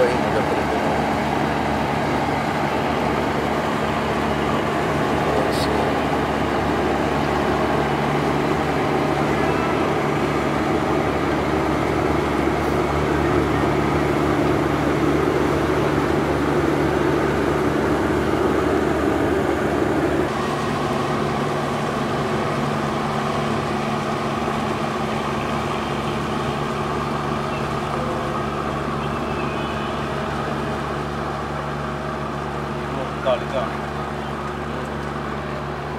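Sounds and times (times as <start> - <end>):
ship diesel engines humming: 0.0 - 35.9.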